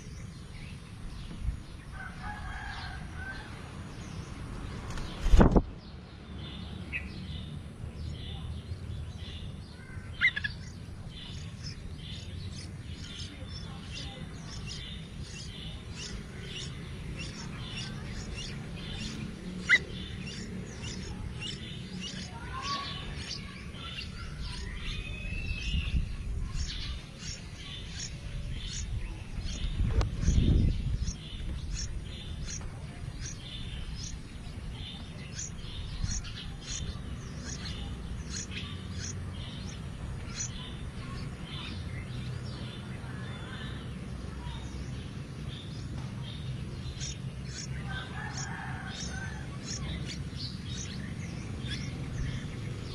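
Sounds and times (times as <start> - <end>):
nestlings begging chirps: 0.0 - 52.9.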